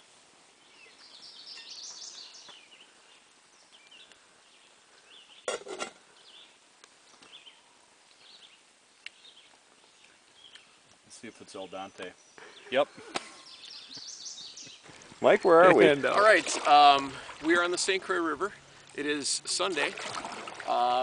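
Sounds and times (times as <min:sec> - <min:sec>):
songbirds singing and chirping: 0:00.1 - 0:19.9.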